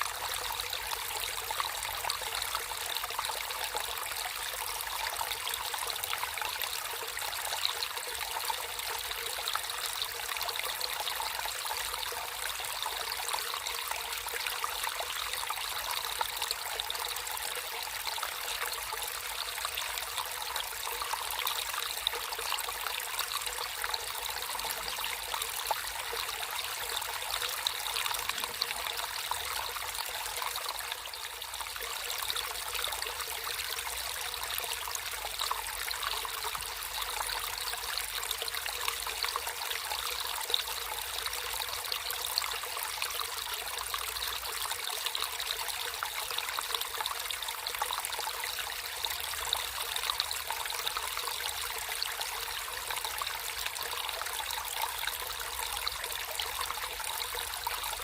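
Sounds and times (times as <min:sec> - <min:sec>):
stream water trickling and splashing: 0:00.0 - 0:58.0.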